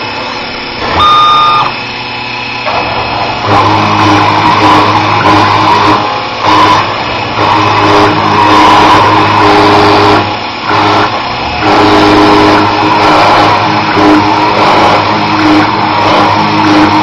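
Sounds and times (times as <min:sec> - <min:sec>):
milling cutter chattering: 0:00.0 - 0:17.0
spindle running: 0:00.0 - 0:17.0
stepper motors humming: 0:00.0 - 0:17.0.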